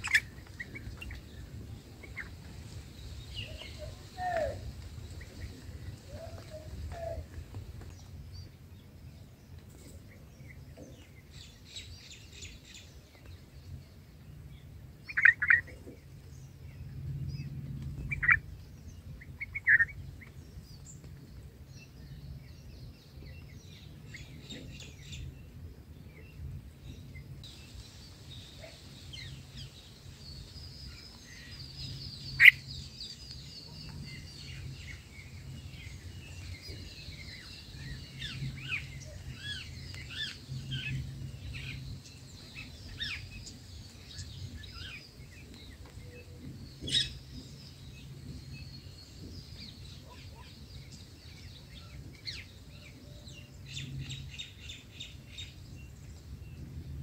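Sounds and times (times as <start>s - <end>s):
birds chirping and calling: 0.0s - 8.9s, 15.0s - 25.4s, 26.2s - 56.6s.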